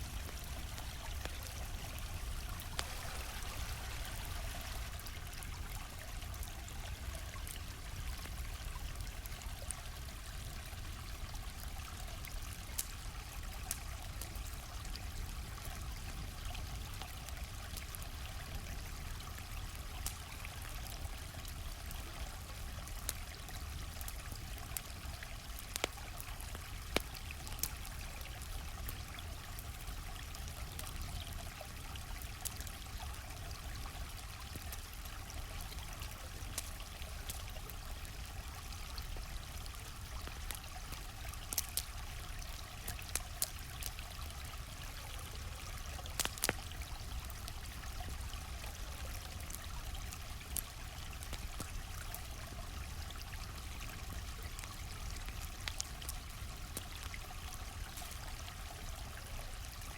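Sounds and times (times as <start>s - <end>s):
campfire crackling and popping: 0.0s - 59.9s
stream flowing: 0.0s - 59.9s.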